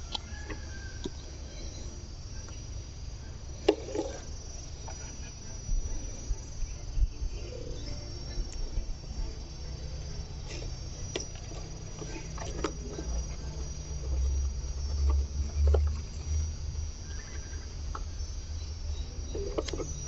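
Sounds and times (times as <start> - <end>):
insects trilling: 0.0 - 20.0
low rumble on microphone: 0.0 - 20.0.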